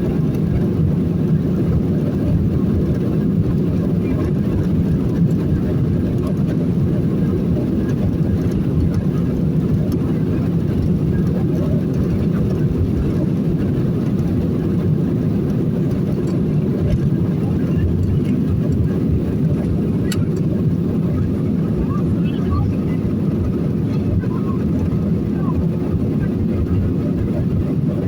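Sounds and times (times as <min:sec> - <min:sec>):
jet engine cabin rumble: 0:00.0 - 0:28.0.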